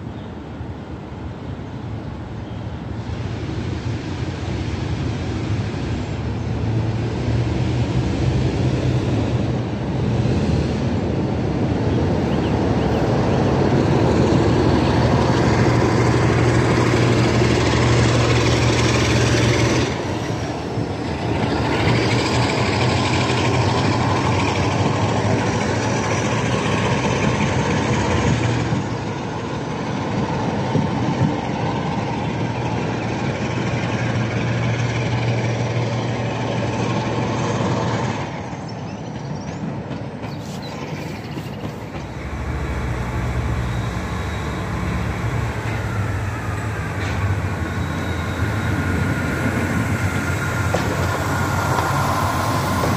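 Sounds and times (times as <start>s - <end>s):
diesel locomotive engine: 0.0s - 52.9s
train wheel noise: 0.0s - 52.9s.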